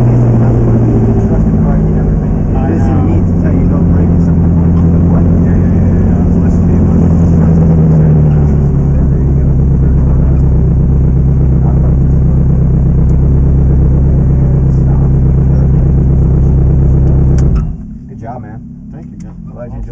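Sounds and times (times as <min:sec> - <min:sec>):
race car engine droning: 0:00.0 - 0:19.9.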